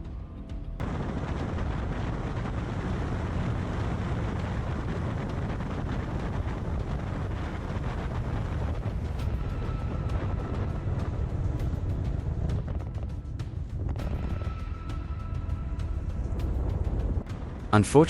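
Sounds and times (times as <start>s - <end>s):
motorcycle road noise: 0.8s - 17.8s
wind rush on microphone: 0.8s - 18.0s.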